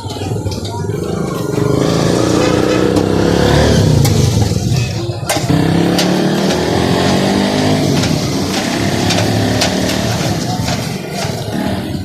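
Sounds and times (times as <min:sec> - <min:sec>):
engine running: 0:00.6 - 0:12.0.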